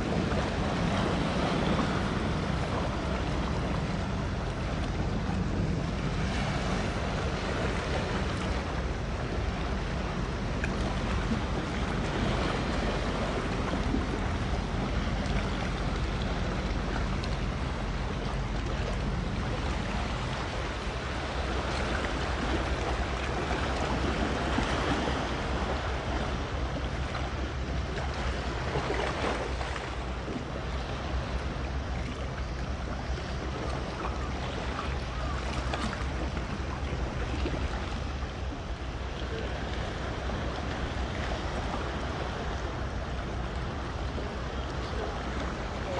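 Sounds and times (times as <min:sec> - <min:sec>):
waves: 0:00.0 - 0:45.9
wind: 0:00.0 - 0:45.9.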